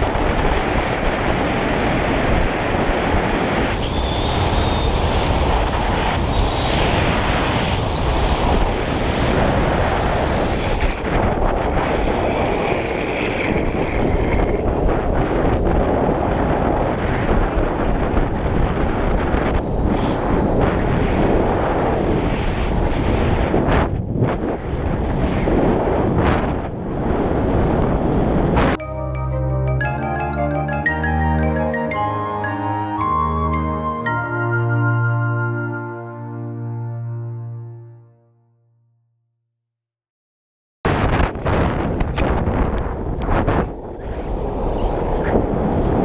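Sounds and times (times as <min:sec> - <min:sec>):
wind noise on microphone: 0:00.0 - 0:35.9, 0:40.8 - 0:46.0.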